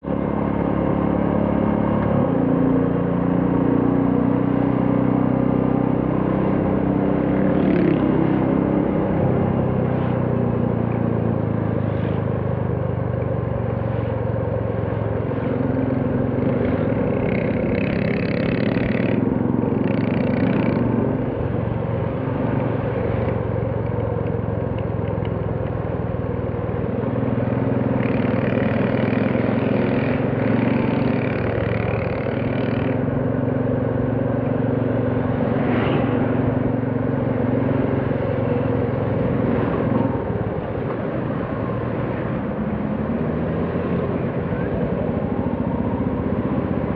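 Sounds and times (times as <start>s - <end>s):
motorcycle engine running: 0.0s - 42.9s
road and wind noise: 0.0s - 46.9s.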